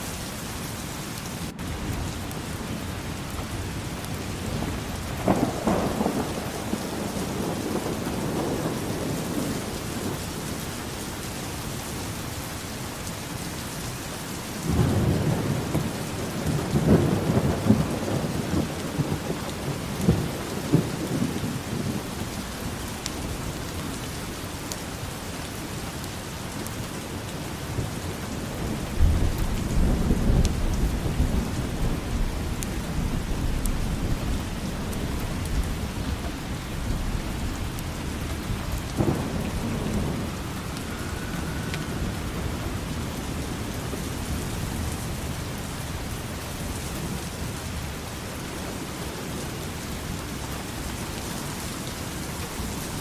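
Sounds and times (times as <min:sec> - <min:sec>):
steady rain falling: 0:00.0 - 0:53.0
thunder rumbling: 0:00.8 - 0:11.2, 0:14.5 - 0:24.4, 0:27.4 - 0:50.1.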